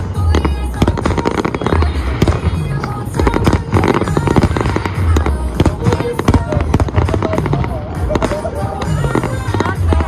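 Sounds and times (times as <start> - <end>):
fireworks bursting and crackling: 0.0 - 10.0
music with deep bass: 0.0 - 10.0.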